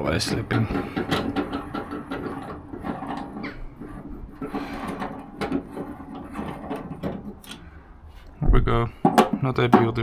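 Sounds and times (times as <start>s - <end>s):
thread tap scraping metal: 0.3s - 8.4s.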